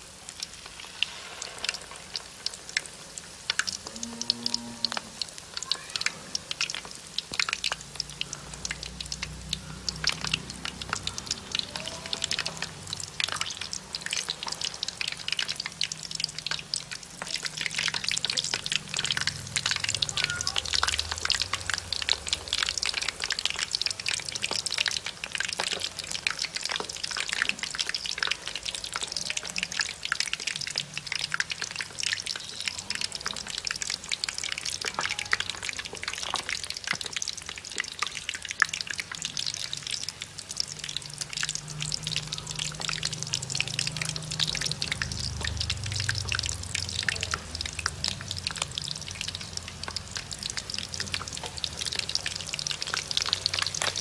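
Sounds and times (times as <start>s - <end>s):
oil crackling and popping: 0.0s - 54.0s.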